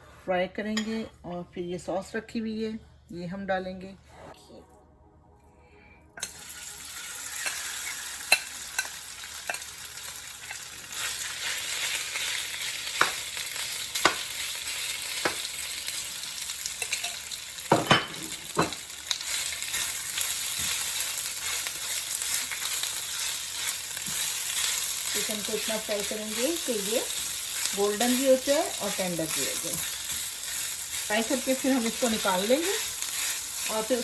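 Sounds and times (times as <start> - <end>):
chicken sizzling in hot oil: 6.2 - 34.0.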